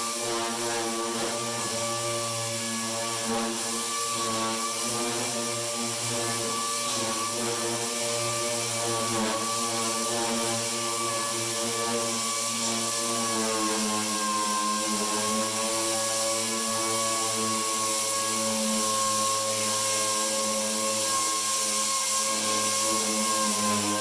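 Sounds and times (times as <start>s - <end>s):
air sander whining: 0.0s - 24.0s.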